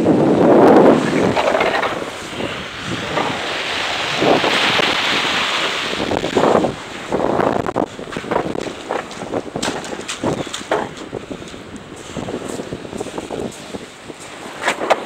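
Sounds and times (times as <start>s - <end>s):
water rushing and splashing: 0.0s - 15.0s
wind buffeting microphone: 0.0s - 15.0s.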